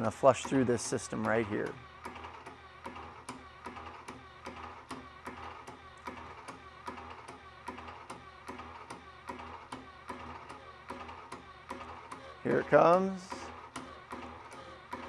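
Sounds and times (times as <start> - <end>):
pump clicking: 0.0 - 15.0.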